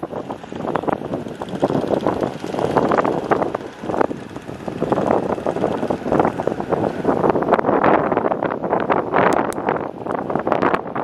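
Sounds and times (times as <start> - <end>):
tractor engine running: 0.0 - 10.6
motorcycle passing: 0.0 - 11.0
wind buffeting microphone: 0.0 - 11.0.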